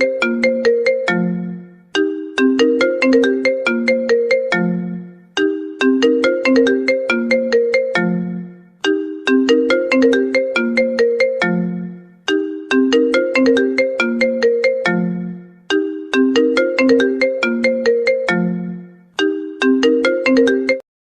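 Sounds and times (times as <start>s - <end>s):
smartphone ringtone melody: 0.0s - 20.8s.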